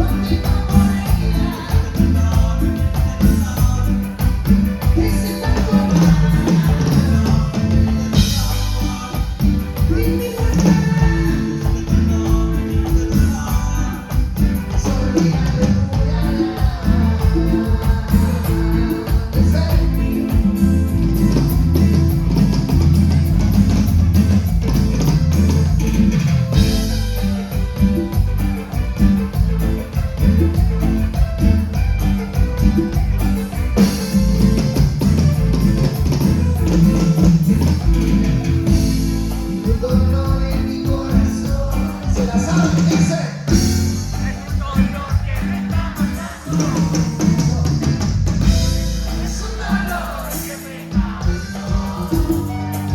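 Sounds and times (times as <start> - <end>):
person singing: 0.0 - 23.5, 26.6 - 52.9
live latin band playing: 0.0 - 52.9.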